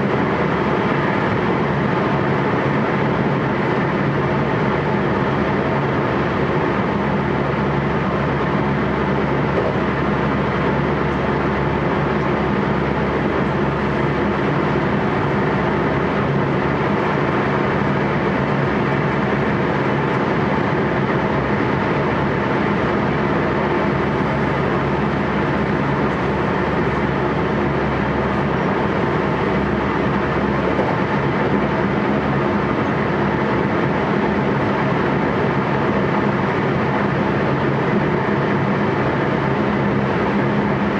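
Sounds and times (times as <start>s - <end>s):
electric train running hum: 0.0s - 40.9s.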